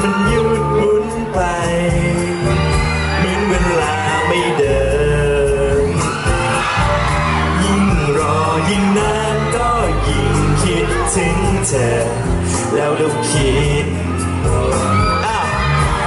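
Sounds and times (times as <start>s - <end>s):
bass and drums: 0.0s - 16.0s
live pop band: 0.0s - 16.0s.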